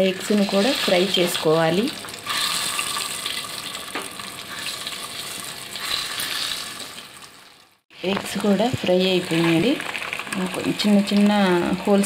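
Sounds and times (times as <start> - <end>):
eggs sizzling in hot oil: 0.0 - 12.0.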